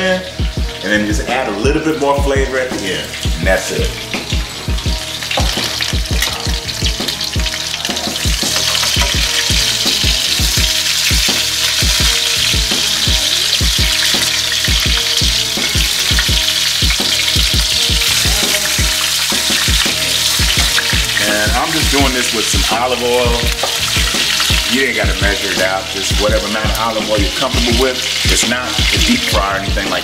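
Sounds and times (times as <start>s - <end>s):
chicken wings sizzling in oil: 0.0s - 30.0s.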